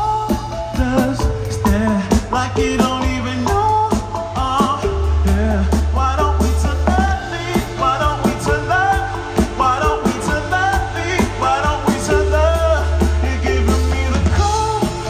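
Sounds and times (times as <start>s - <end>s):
live electronic music: 0.0s - 15.0s
person singing: 0.0s - 15.0s.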